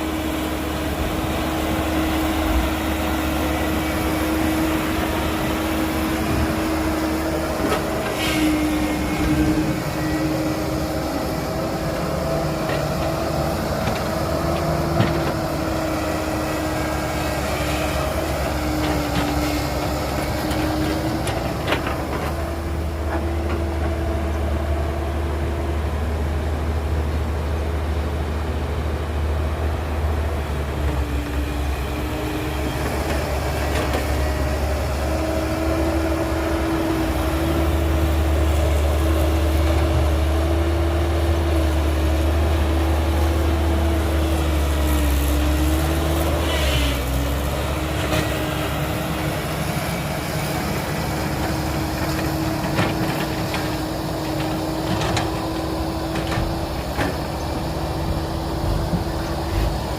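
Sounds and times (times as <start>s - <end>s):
diesel machinery droning: 0.0s - 59.9s.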